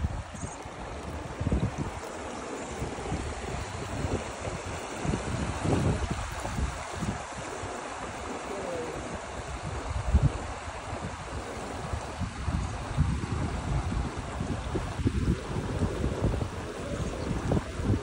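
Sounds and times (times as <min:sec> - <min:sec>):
water rippling over rocks: 0:00.0 - 0:18.0
wind buffeting microphone: 0:00.0 - 0:18.0.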